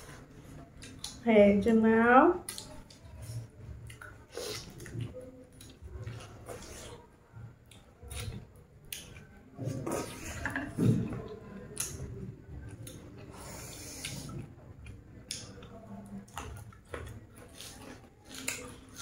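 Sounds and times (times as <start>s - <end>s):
chewing: 0.0s - 1.2s, 2.4s - 19.0s.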